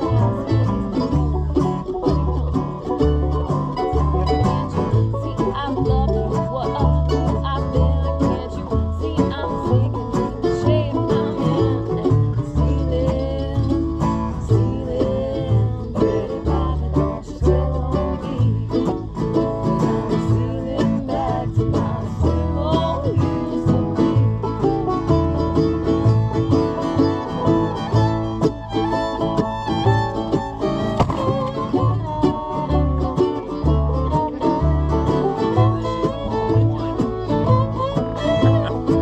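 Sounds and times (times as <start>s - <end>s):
banjo picking: 0.0s - 39.0s
guitar: 0.0s - 39.0s
low bass notes: 0.0s - 39.0s.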